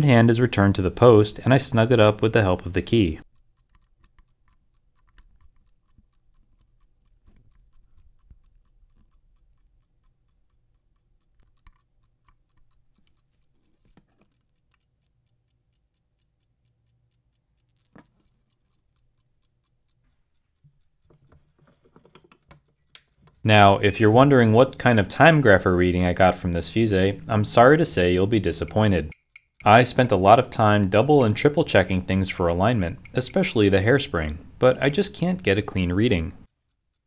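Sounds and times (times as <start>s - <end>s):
pocket watch ticking: 0.0s - 37.0s.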